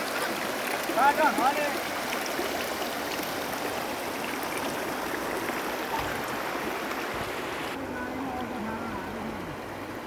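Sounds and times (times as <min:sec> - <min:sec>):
rushing flood water: 0:00.0 - 0:10.0.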